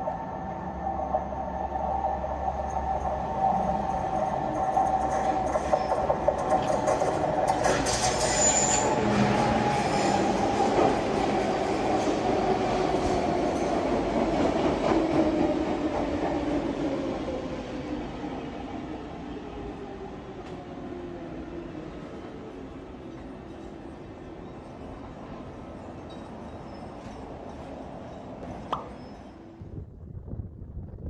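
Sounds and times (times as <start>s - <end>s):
train rumbling past: 0.0s - 30.4s.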